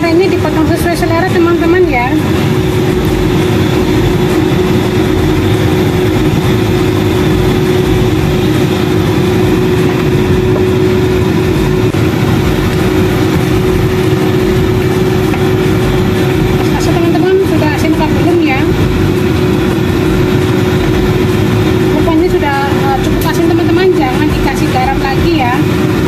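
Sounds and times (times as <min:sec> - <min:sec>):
range hood fan running: 0:00.0 - 0:26.0.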